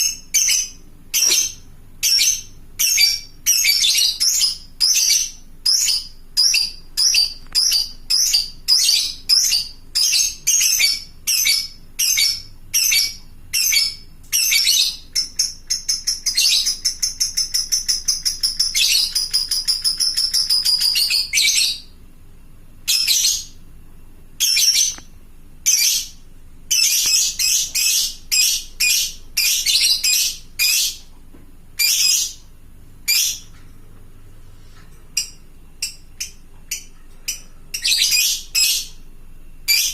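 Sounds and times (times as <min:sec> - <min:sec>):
lovebird chattering trill: 0:00.0 - 0:21.9, 0:24.4 - 0:31.0, 0:31.8 - 0:32.5, 0:33.1 - 0:33.5, 0:35.2 - 0:39.0, 0:39.7 - 0:39.9
lovebird chirping: 0:00.0 - 0:22.0, 0:22.8 - 0:23.6, 0:24.4 - 0:31.1, 0:31.8 - 0:33.6, 0:35.1 - 0:39.9.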